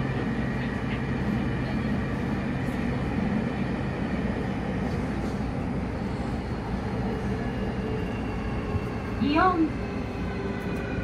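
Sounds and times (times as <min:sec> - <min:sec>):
train wheels rumbling in tunnel: 0:00.0 - 0:11.0.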